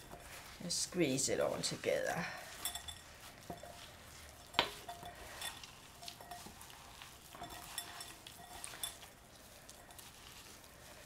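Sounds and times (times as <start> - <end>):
hands squishing dough: 0.0 - 11.0.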